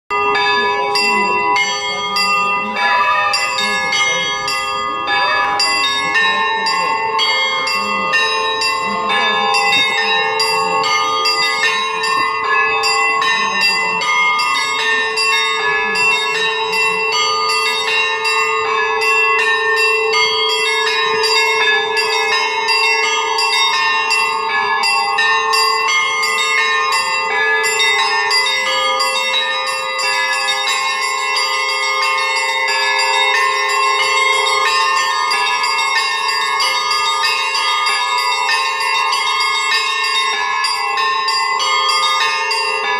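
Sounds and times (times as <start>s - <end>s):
large bells ringing: 0.1s - 42.9s
small high bells striking: 0.1s - 42.9s.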